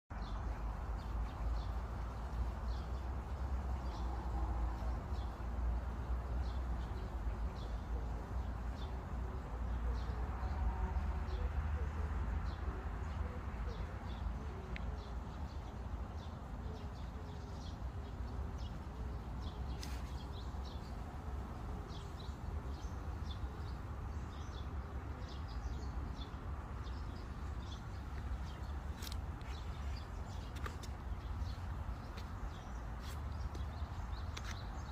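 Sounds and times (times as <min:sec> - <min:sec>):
birds chirping: 0:06.1 - 0:34.9.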